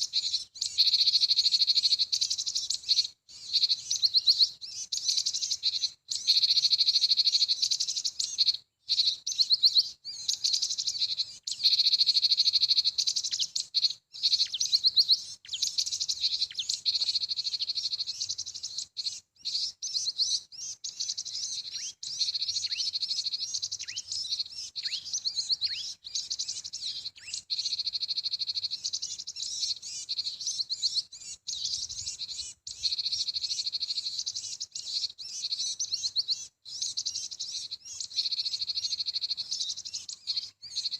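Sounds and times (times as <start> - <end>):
small songbirds chirping and trilling: 0.0 - 40.9.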